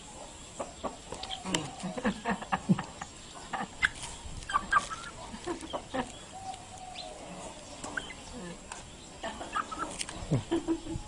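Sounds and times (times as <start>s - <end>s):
chicken clucking: 0.2s - 8.3s, 9.4s - 11.0s.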